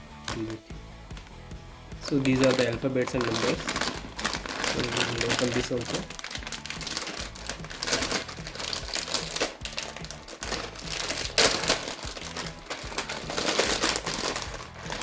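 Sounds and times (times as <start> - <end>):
packaging crinkling: 2.0 - 15.0.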